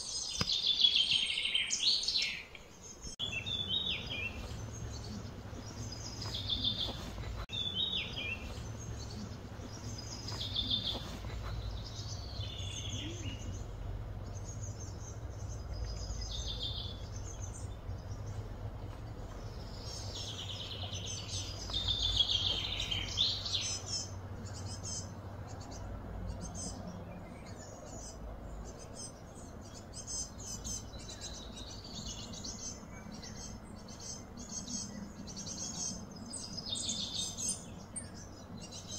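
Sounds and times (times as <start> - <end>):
birds chirping and singing: 0.0 - 38.9
steady low hum: 3.1 - 38.9.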